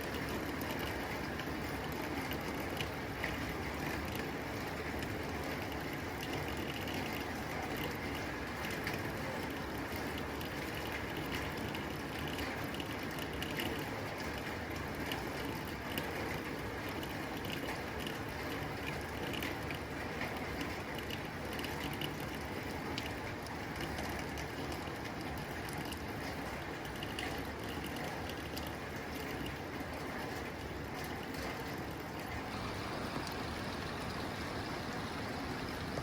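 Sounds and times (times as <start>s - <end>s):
rain on a tin roof: 0.0s - 36.0s.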